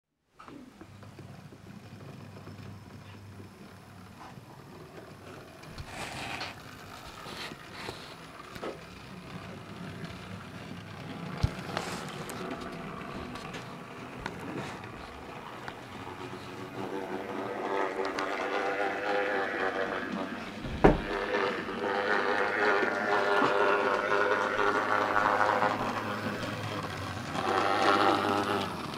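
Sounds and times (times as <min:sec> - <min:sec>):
train wheels clicking on track: 0:00.5 - 0:28.9
loud humming: 0:03.6 - 0:28.9
electric motor whirring: 0:05.6 - 0:28.9.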